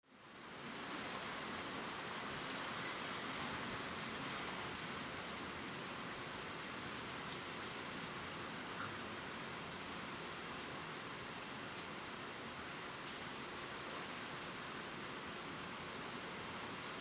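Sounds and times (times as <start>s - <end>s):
rain pattering on leaves: 1.8s - 17.0s.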